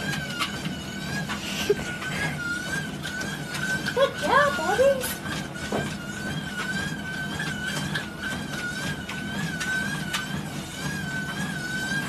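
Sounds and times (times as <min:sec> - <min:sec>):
footfalls on treadmill belt: 0:00.0 - 0:12.0
treadmill motor whine: 0:00.0 - 0:12.0.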